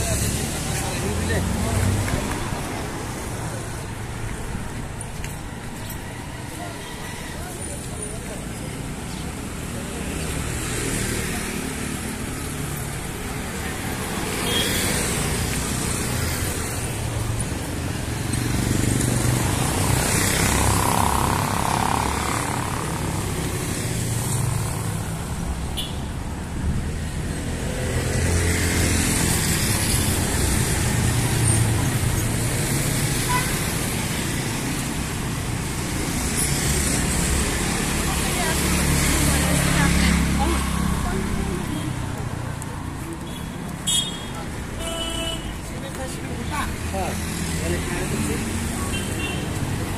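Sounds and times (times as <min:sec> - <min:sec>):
vehicles passing on street: 0:00.0 - 0:49.9.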